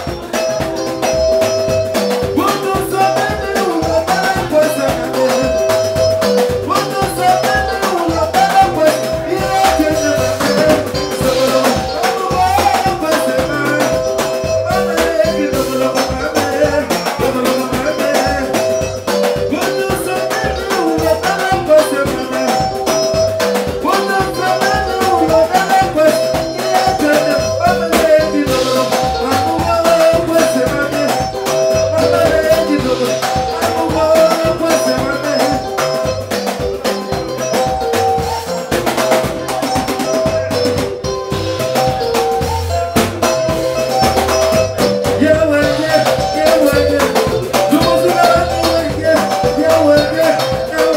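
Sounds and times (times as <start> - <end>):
live band dance music: 0.0 - 50.9.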